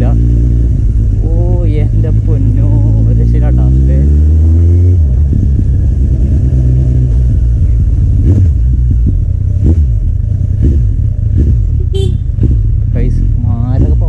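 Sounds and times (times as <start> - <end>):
motorcycle engine rumbling: 0.0 - 14.0.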